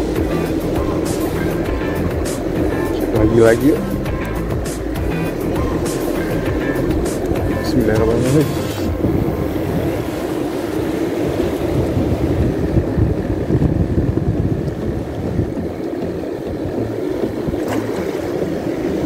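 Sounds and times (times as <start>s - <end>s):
surf on rocky reef: 0.0s - 19.0s
wind on microphone: 0.0s - 19.0s.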